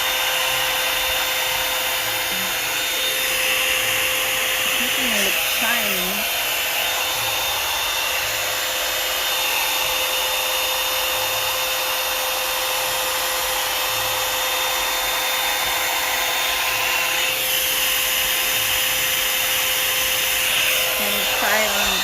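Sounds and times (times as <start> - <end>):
blow dryer brush running: 0.0 - 22.0.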